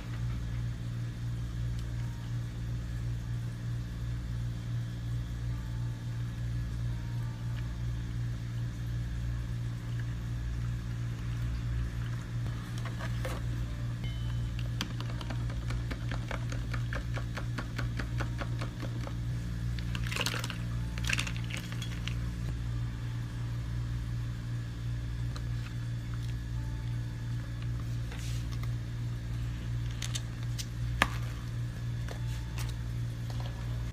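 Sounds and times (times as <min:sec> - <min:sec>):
low equipment hum: 0:00.0 - 0:33.9.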